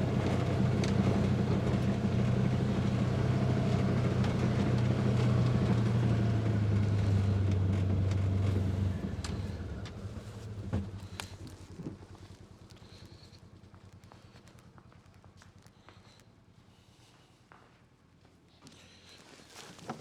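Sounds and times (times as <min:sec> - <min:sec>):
vehicle engine running: 0:00.0 - 0:17.4.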